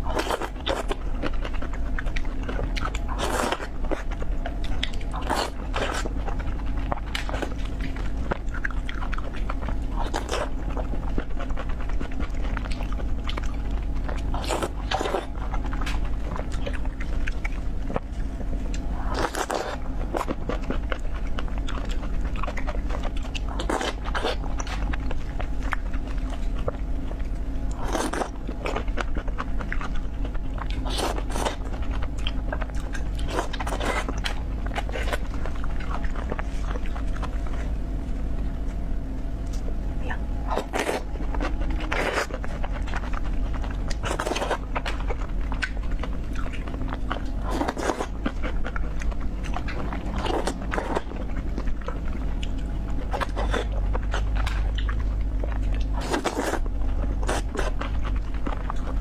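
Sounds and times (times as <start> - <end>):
person chewing: 0.0 - 37.8, 40.3 - 59.0
steady low hum: 0.0 - 59.0.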